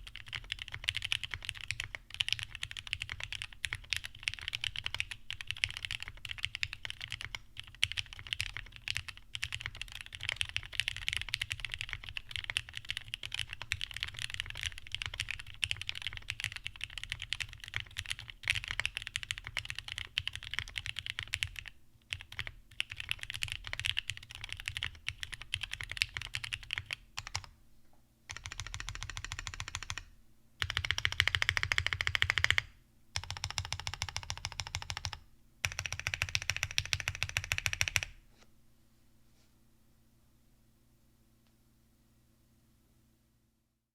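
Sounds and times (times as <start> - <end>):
mechanical keyboard typing: 0.0 - 27.5, 28.3 - 38.2.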